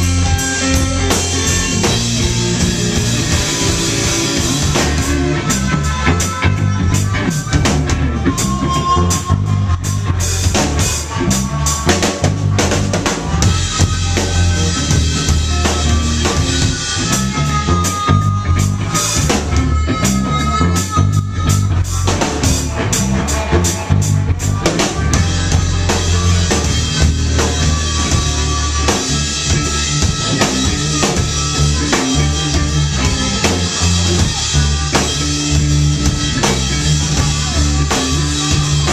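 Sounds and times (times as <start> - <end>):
blues-rock band playing: 0.0 - 38.9
harmonica soloing: 0.0 - 38.9.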